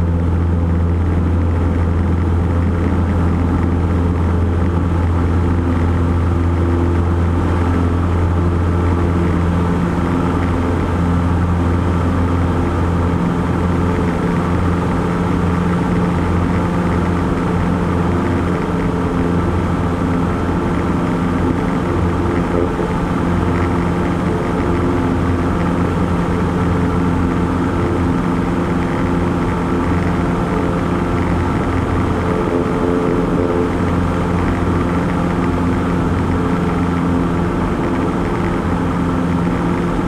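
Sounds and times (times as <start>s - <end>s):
propeller plane engine running: 0.0s - 40.0s.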